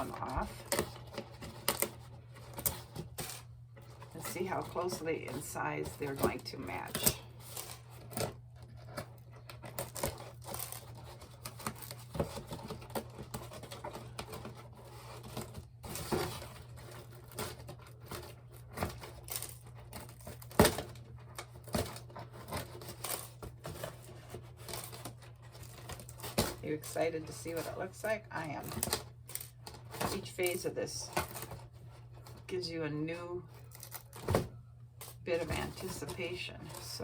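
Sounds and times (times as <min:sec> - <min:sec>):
pins clicking and scratching: 0:00.0 - 0:27.9, 0:28.6 - 0:32.5, 0:33.5 - 0:34.4.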